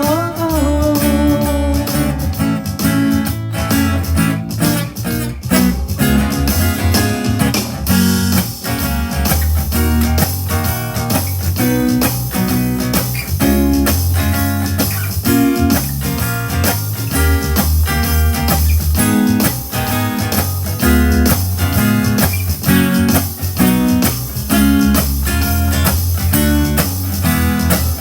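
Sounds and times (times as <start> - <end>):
instrumental pop music: 0.0 - 28.0.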